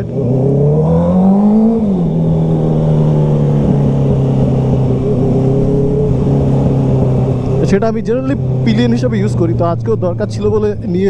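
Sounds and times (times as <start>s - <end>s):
motorcycle engine at speed: 0.0s - 11.0s
wind rushing: 0.3s - 10.2s.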